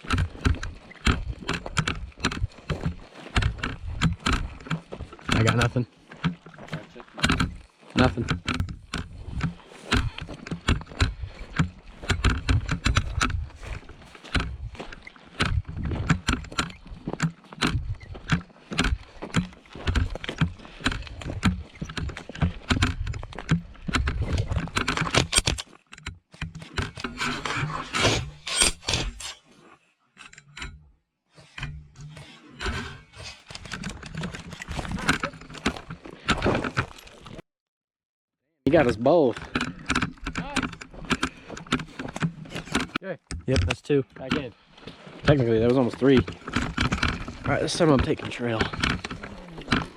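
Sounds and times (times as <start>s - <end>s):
microphone being jostled: 0.0s - 25.8s, 31.6s - 37.4s, 38.7s - 49.9s
rustling and scraping of gear: 0.0s - 37.4s, 38.7s - 49.9s.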